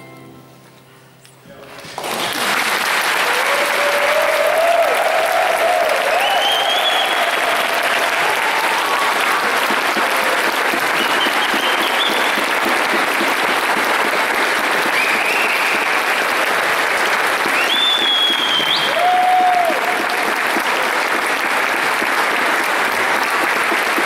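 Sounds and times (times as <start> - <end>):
audience applauding: 1.6 - 24.0.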